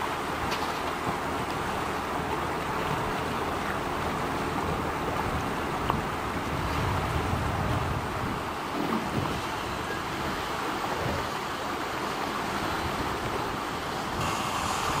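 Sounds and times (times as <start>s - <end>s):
wind buffeting microphone: 1.2s - 11.3s, 12.5s - 15.0s.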